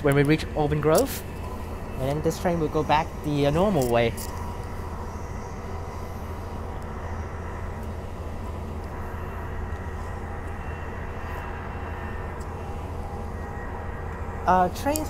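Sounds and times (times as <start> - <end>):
train carriage hum and rumble: 0.0 - 15.0.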